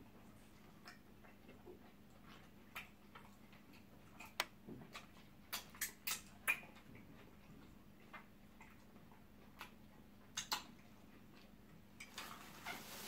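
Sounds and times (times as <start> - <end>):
wet lip smacks and mouth clicks: 0.8 - 12.1.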